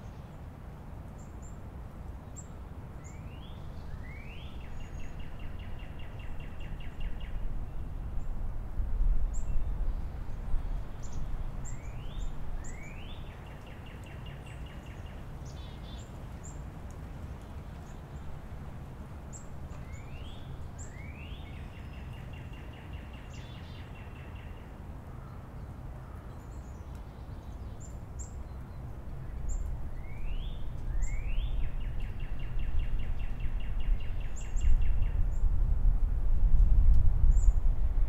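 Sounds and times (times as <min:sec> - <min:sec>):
songbirds chirping: 0:00.0 - 0:35.7, 0:36.9 - 0:38.0.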